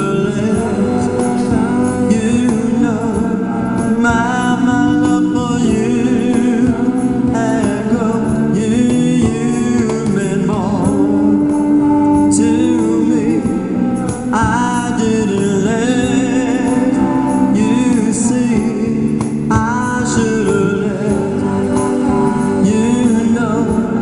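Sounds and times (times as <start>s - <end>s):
cajon: 0.0s - 24.0s
electric guitar: 0.0s - 24.0s
electric keyboard: 0.0s - 24.0s
person singing into microphone: 0.0s - 24.0s.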